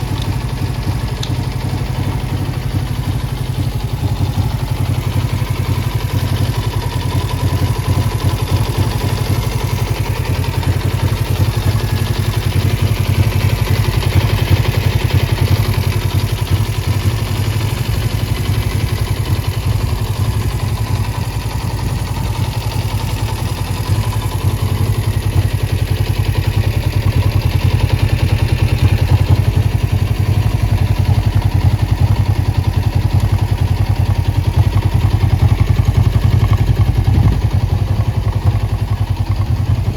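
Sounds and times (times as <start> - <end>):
clattery motorcycle engine running: 0.0 - 39.9.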